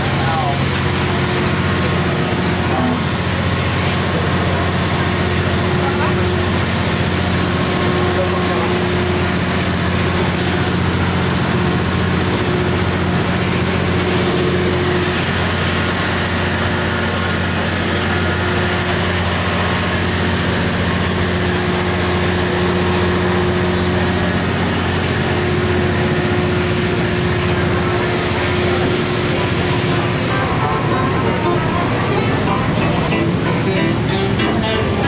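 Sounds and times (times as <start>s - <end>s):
hiss of running equipment: 0.0s - 33.7s
engine room machinery drone: 0.0s - 35.0s.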